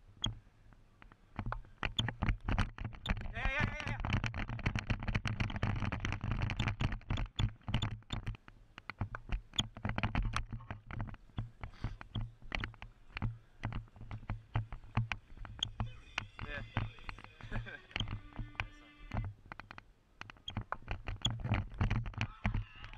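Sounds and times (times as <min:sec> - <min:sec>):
irregular clicks: 0:00.2 - 0:22.9
camera knocking and rubbing in mount: 0:01.0 - 0:22.9.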